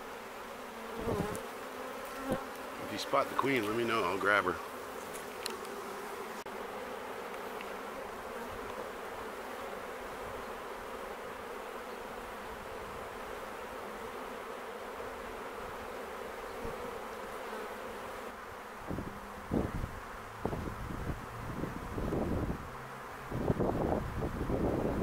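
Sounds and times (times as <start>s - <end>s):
bee swarm buzzing: 0.0s - 25.0s.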